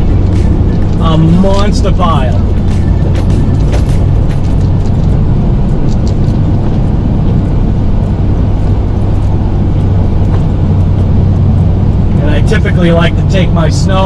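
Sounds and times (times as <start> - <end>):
plow pushing snow: 0.0 - 14.0
truck engine running under load: 0.0 - 14.0.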